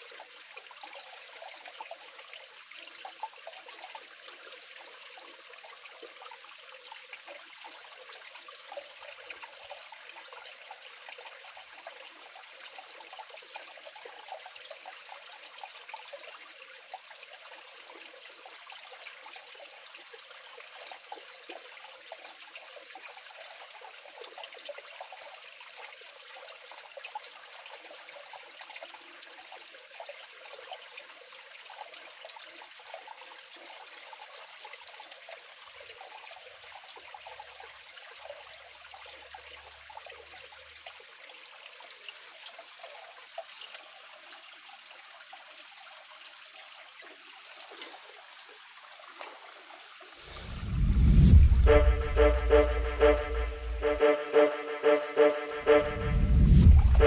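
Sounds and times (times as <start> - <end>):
water sloshing and trickling: 0.0 - 50.7.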